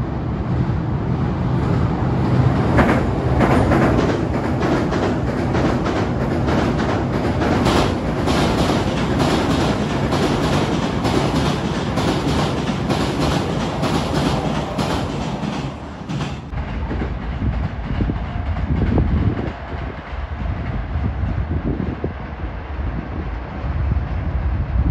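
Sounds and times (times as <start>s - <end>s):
electric train rumbling over bridge: 0.0s - 24.9s
wheels clickety-clack on rail joints: 1.6s - 22.0s.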